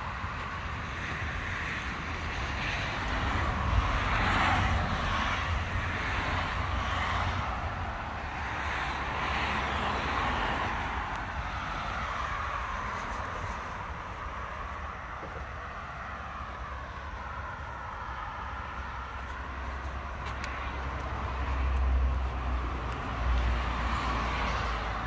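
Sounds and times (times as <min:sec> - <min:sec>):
cars passing: 0:00.0 - 0:25.0
low traffic rumble: 0:00.0 - 0:25.0.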